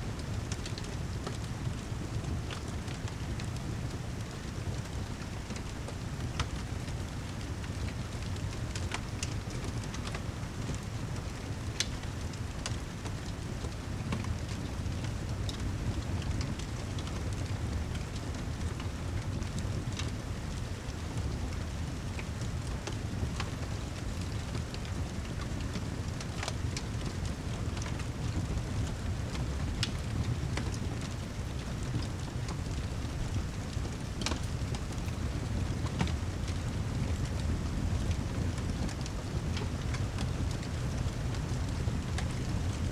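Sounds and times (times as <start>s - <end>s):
steady rain: 0.0s - 42.9s
wood fire crackling and popping: 0.2s - 42.9s.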